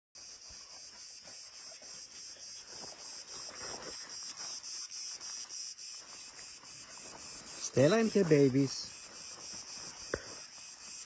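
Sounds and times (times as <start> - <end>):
cicadas singing: 0.2 - 11.0.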